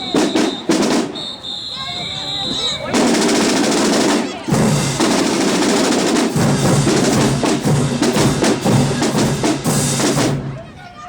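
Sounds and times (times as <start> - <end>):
drumline playing fast cadence: 0.0 - 11.0.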